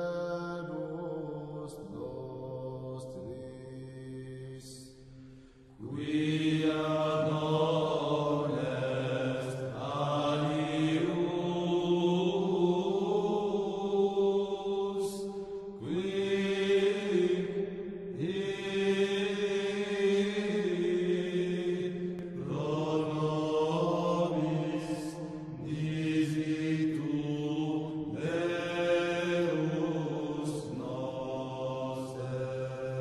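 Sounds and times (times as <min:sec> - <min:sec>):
slow vocal chant: 0:00.0 - 0:33.0.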